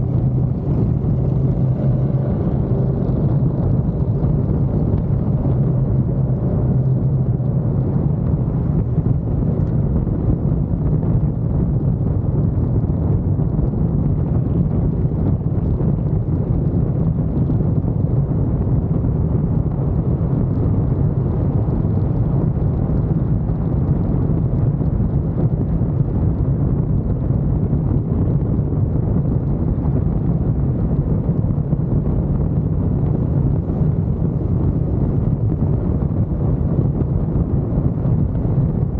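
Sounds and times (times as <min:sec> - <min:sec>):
car road and wind noise: 0:00.0 - 0:38.9
wind buffeting the microphone: 0:00.0 - 0:38.9.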